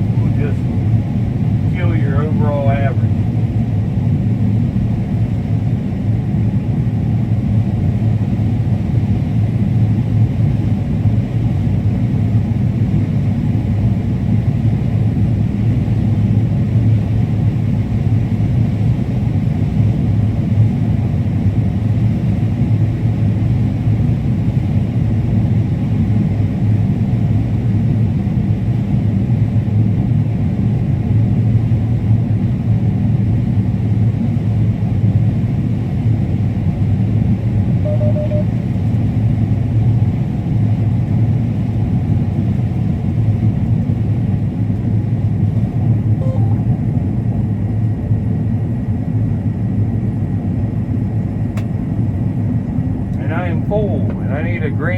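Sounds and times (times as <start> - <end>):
combine harvester drone: 0.0 - 54.9.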